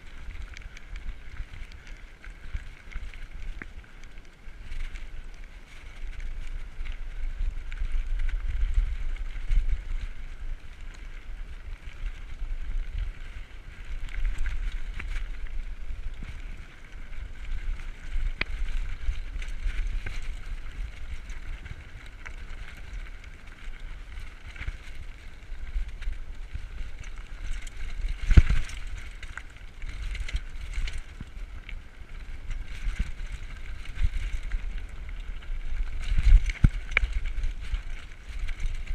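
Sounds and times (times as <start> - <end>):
bike tyres crunching on stones: 0.0 - 38.9
wind buffeting microphone: 6.2 - 38.9.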